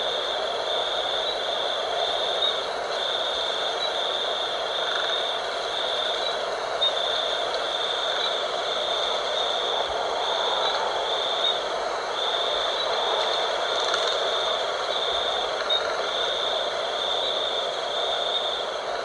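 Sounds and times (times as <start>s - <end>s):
insect trilling: 0.0s - 19.0s.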